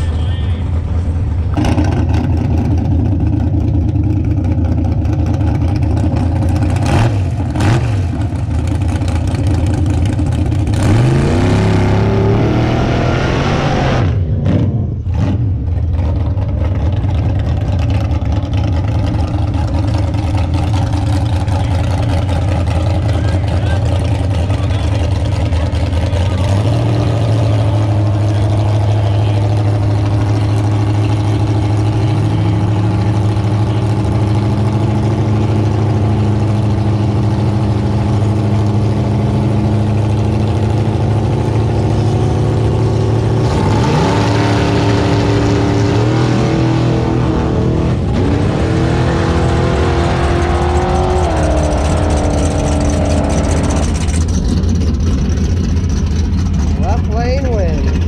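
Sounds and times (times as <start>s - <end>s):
drag race car engine: 0.0s - 58.0s.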